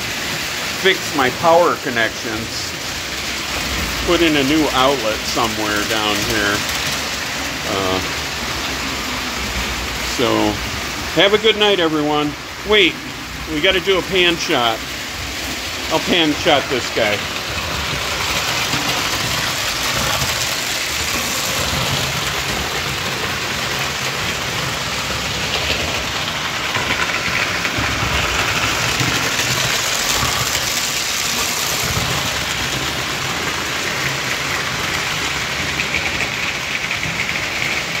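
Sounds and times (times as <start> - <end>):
metal wheels rolling on rails: 0.0 - 38.0
toy train electric motors: 0.0 - 38.0.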